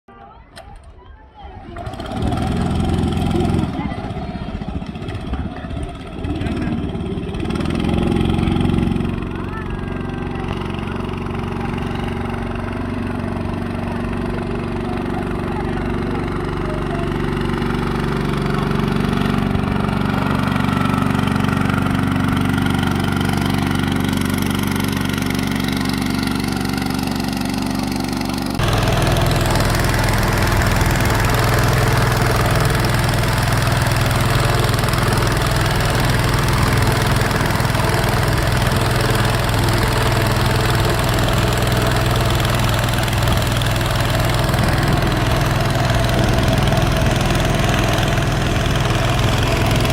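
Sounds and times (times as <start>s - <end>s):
engine running: 1.4s - 49.9s.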